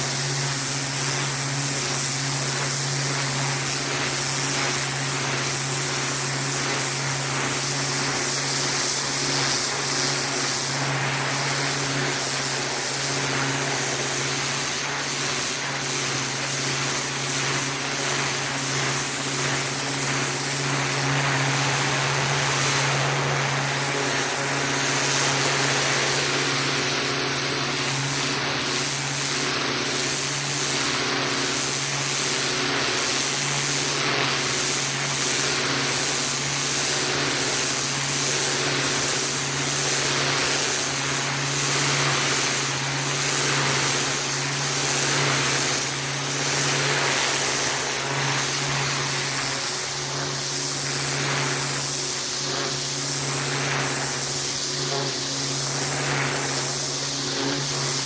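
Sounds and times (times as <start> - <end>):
high-pressure water jet hiss: 0.0 - 58.0
pressure washer motor hum: 0.0 - 58.0.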